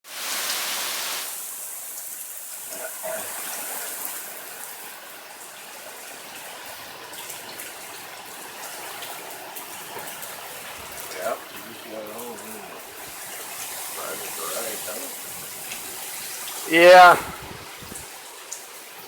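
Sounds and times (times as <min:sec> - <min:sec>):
light rain hissing: 0:00.1 - 0:19.0
faint ticks of raindrops: 0:01.9 - 0:19.0.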